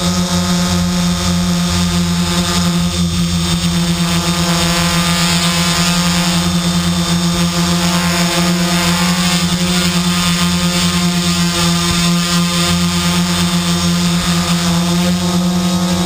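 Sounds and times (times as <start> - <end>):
quadcopter motors humming: 0.0 - 16.0.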